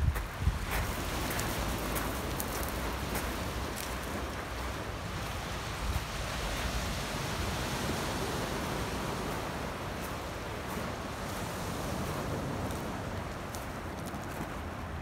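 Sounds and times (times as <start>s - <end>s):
wind rumbling on microphone: 0.0s - 15.0s
small waves on pebbly shore: 0.6s - 14.8s.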